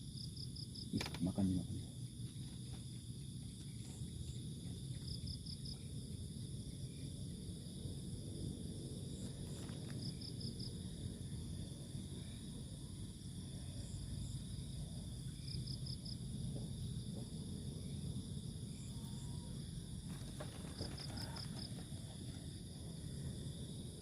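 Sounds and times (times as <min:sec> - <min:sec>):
crickets trilling: 0:00.0 - 0:24.0
quick cricket chirps: 0:00.0 - 0:24.0.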